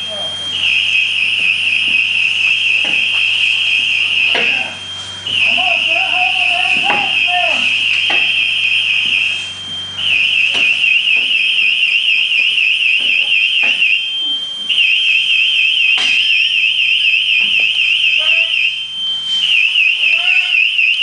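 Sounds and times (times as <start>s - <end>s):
shrill warbling alarm: 0.0s - 21.0s.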